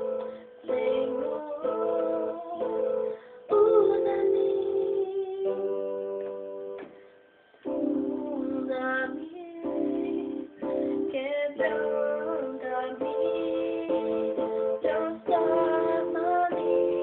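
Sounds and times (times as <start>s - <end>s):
girl singing: 0.0s - 6.3s, 7.7s - 17.0s.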